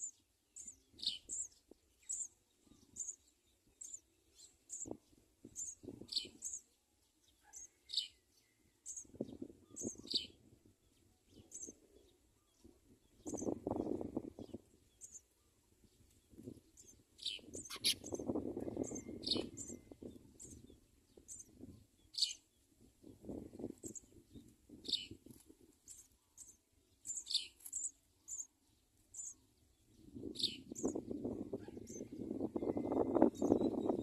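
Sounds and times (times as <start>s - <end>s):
sparrows chirping: 0.0s - 34.0s.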